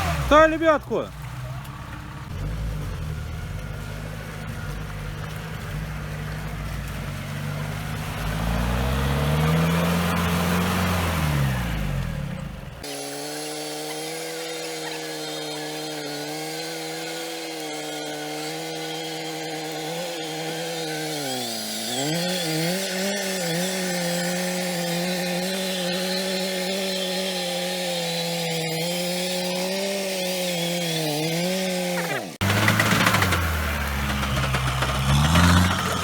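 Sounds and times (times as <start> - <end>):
winch motor whining: 0.0 - 26.8, 30.5 - 36.0.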